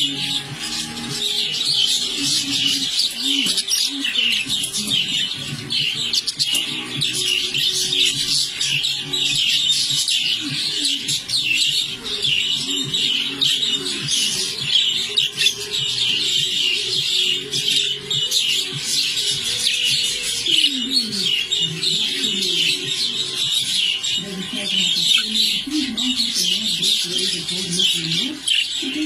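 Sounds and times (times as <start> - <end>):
budgerigars chattering and warbling: 0.0 - 29.0.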